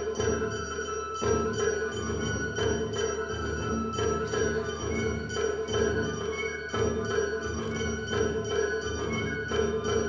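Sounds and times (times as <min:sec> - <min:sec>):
bamboo flute melody: 0:00.0 - 0:10.0
taiko drums striking: 0:00.0 - 0:10.0.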